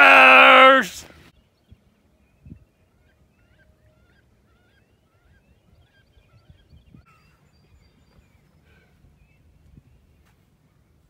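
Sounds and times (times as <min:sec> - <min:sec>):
distant birds calling: 0:01.3 - 0:11.0.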